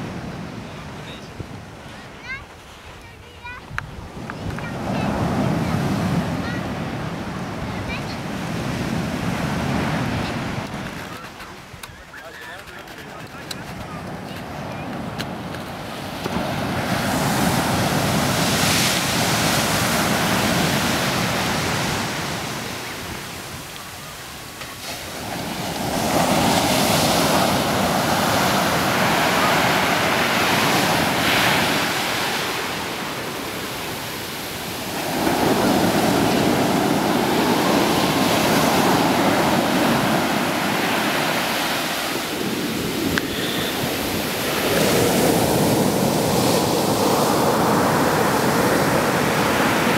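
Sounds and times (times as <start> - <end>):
ocean surf breaking on a beach: 0.0 - 49.9.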